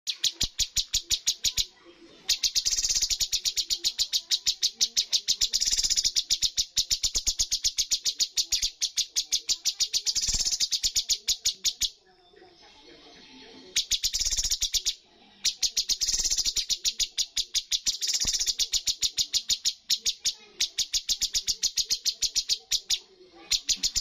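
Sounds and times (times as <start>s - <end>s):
bird singing rapid sharp notes: 0.0s - 12.0s, 13.7s - 24.0s.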